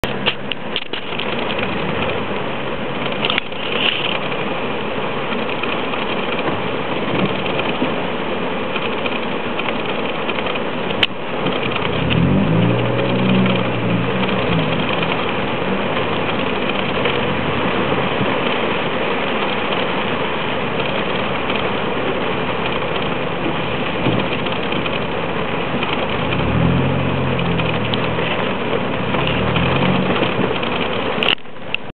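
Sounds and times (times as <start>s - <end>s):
heavy rain on car roof: 0.0s - 31.9s
vehicle engine hum: 0.0s - 31.9s.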